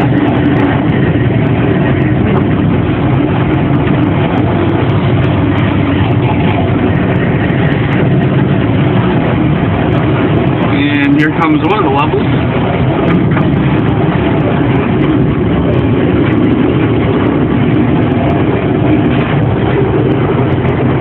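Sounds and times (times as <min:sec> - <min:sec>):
elevator mechanical rumble and rattle: 0:00.0 - 0:21.0.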